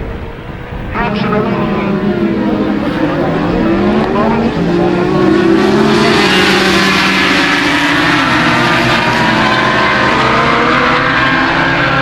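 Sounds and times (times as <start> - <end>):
racing motorcycle engines: 0.3 - 12.0.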